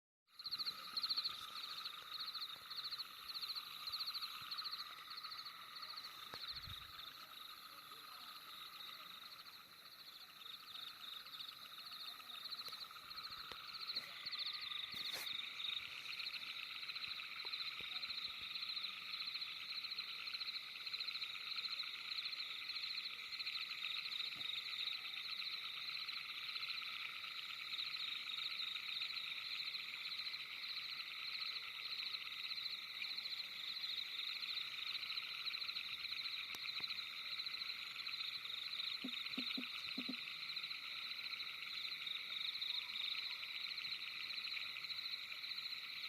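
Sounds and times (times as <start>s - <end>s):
frogs trilling in chorus: 0.3s - 46.0s.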